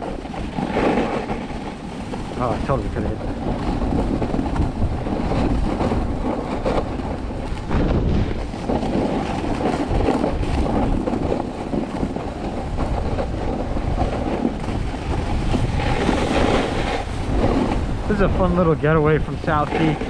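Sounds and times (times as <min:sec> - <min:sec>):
snowboard scraping on snow: 0:00.0 - 0:20.0
wind buffeting microphone: 0:00.0 - 0:20.0.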